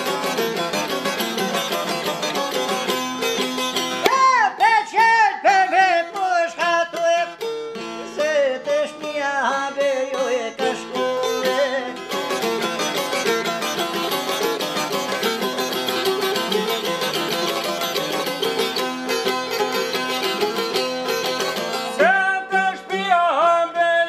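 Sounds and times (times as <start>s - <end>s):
plucked lutes playing: 0.0s - 23.9s
man singing folk melody: 0.0s - 24.0s.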